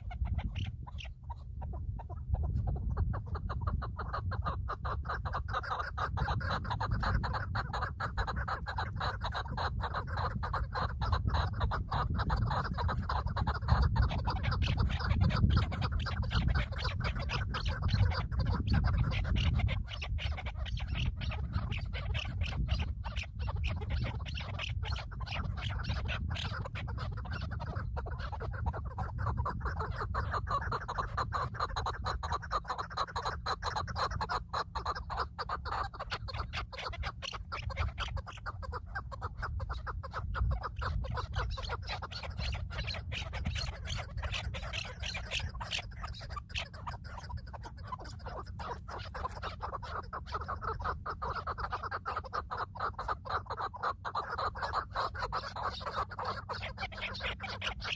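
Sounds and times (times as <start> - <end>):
birds chattering: 0.0 - 57.9.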